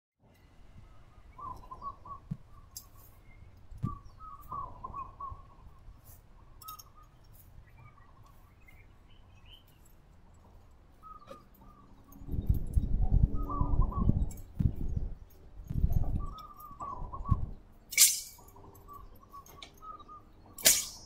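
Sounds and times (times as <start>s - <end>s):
birds chirping: 0.3s - 21.0s.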